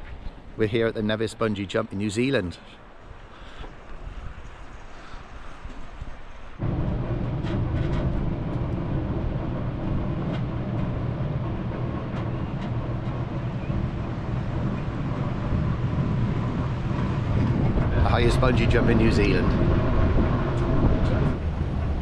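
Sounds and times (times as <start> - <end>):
vehicle rumble: 2.6 - 22.0.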